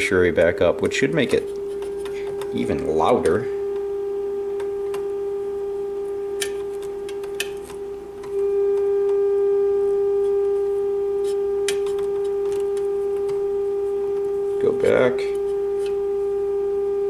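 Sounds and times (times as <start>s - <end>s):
steady test tone from radio speaker: 0.0s - 17.0s.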